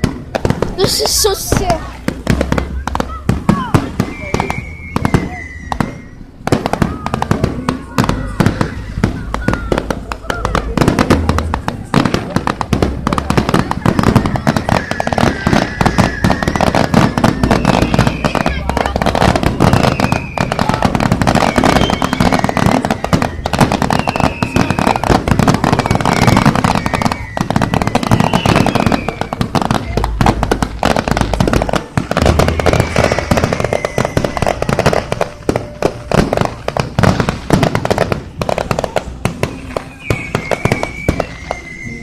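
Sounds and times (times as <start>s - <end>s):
fireworks crackling and popping: 0.0s - 42.0s
fireworks deep booms: 0.0s - 42.0s
fireworks high whistles: 0.0s - 42.0s.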